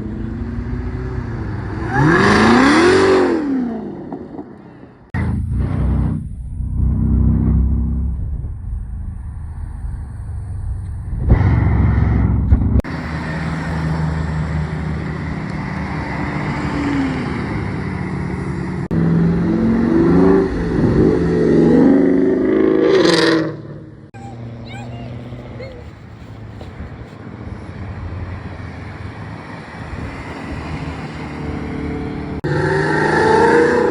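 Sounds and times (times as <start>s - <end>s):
car engines revving: 0.0s - 33.9s.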